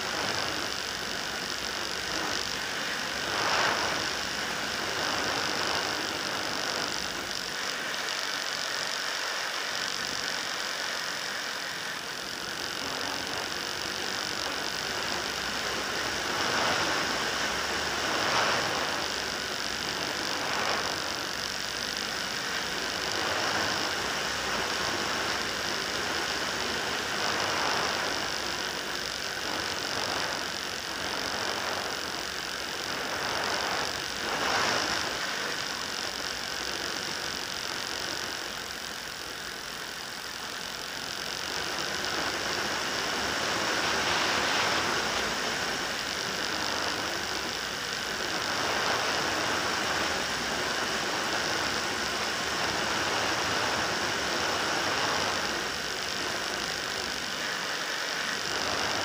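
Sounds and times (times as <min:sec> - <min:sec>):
model aircraft motor and propeller: 0:00.0 - 0:59.0.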